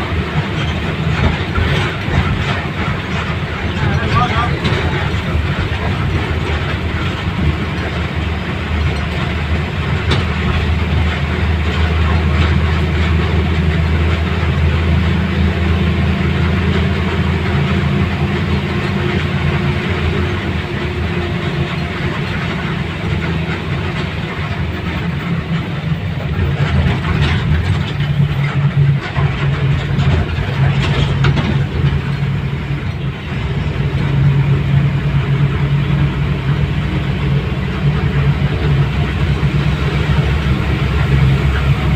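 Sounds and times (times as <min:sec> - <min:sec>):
vehicle engine drone: 0:00.0 - 0:41.9.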